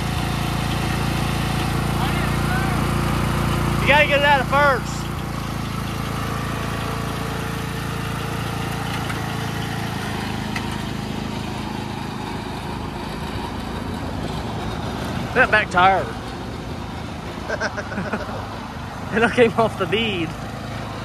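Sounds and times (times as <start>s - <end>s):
riding lawn mower engine running: 0.0s - 21.0s.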